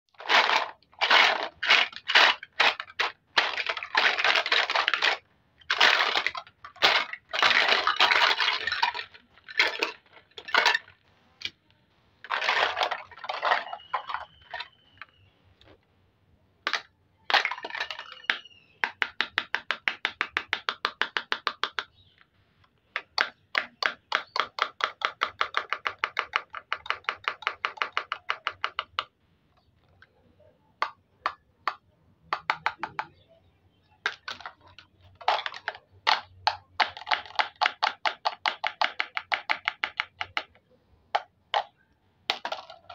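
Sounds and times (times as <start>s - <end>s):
plastic toys clattering: 0.1s - 15.7s, 16.6s - 33.3s, 34.0s - 42.9s.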